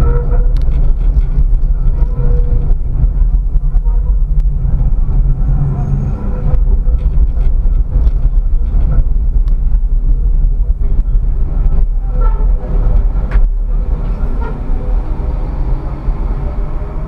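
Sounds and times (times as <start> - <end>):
wheels clicking over rail joints: 0.0 - 5.4, 6.3 - 15.0
tram wheels rumbling: 0.0 - 17.0.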